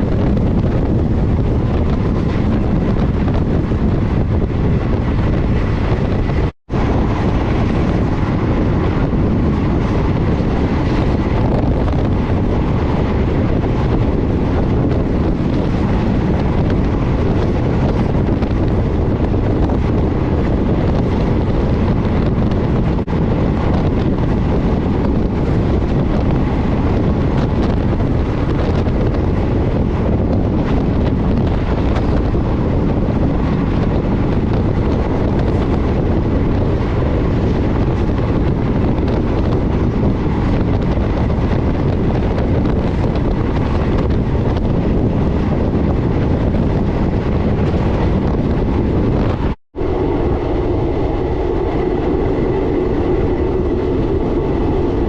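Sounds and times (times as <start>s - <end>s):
train wheels rushing on rail: 0.0s - 55.0s
wind buffeting microphone: 0.0s - 55.0s.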